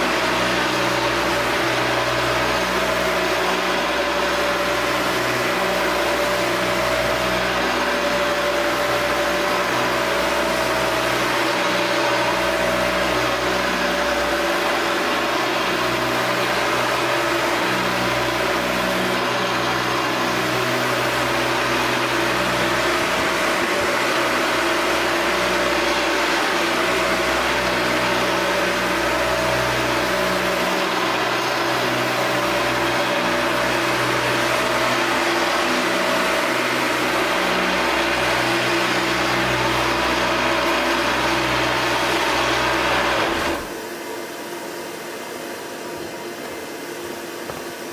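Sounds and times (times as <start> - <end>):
floor sander sanding wood: 0.0 - 47.9
vacuum humming: 0.0 - 47.9.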